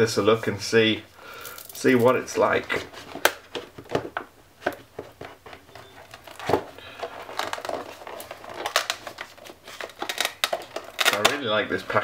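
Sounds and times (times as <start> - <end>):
packaging crinkling and rustling: 1.4 - 12.0.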